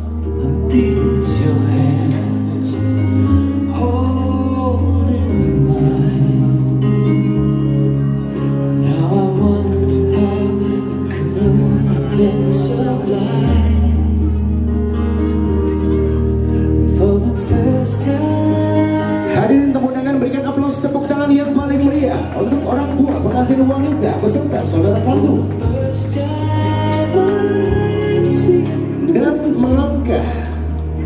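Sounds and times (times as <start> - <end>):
sustained bass notes: 0.0 - 31.0.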